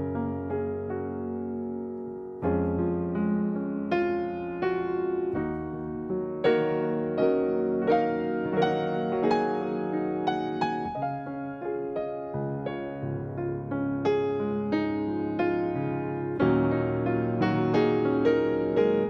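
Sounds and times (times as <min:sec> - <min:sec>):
gentle piano chords: 0:00.0 - 0:19.0.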